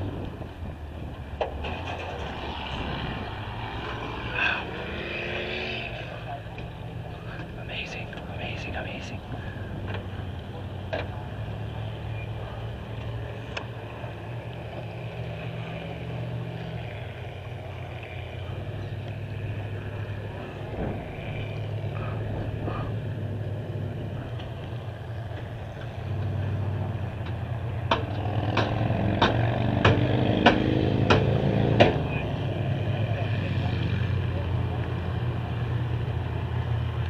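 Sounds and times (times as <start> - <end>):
car engines idling: 0.0 - 37.0.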